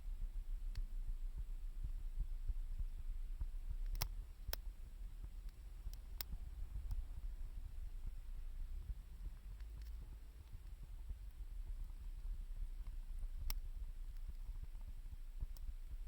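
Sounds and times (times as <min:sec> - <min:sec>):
low rumble: 0:00.0 - 0:16.0
wood fire crackling: 0:01.8 - 0:16.0.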